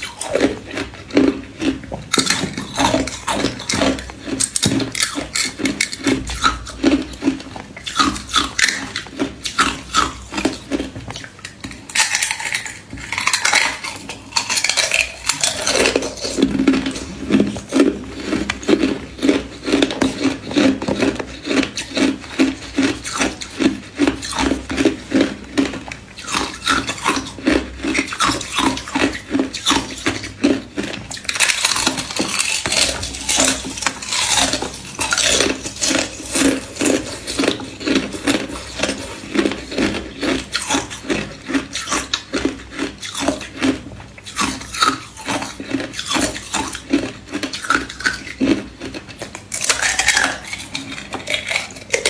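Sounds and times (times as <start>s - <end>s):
ice crunching being chewed: 0.0s - 52.0s.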